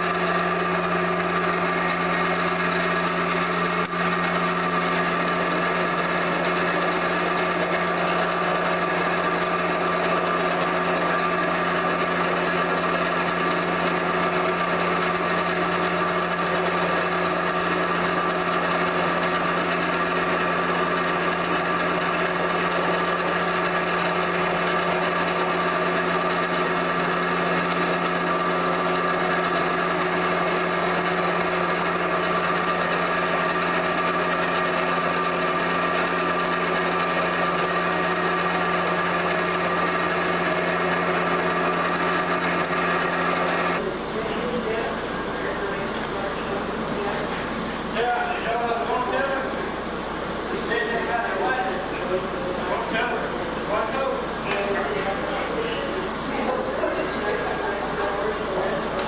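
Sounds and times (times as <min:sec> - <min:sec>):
electric motor humming: 0:00.0 - 0:59.0.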